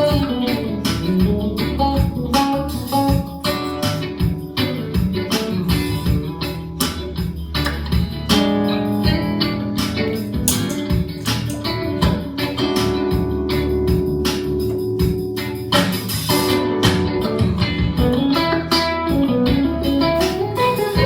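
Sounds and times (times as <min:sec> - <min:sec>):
electric guitar strummed and picked: 0:00.0 - 0:21.0.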